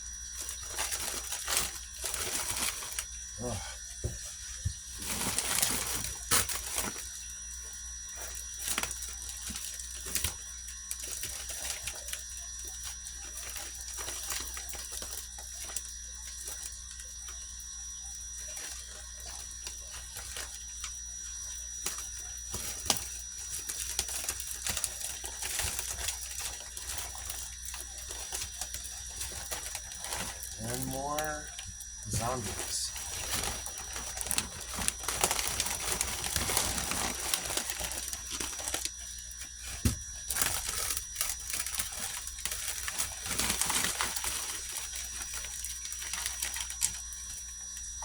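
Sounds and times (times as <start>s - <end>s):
faint high whine: 0.0s - 48.0s
packaging clicks and crinkles: 0.2s - 48.0s.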